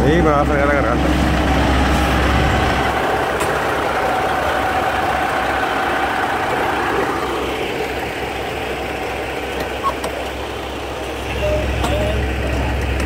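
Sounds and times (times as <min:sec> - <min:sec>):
constant whine: 0:00.0 - 0:13.0
diesel truck engine idling: 0:00.0 - 0:13.0.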